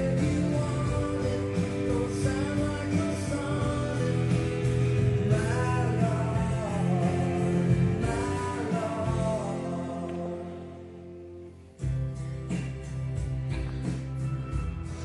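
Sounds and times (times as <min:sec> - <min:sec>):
vinyl record song with guitar: 0:00.0 - 0:15.0.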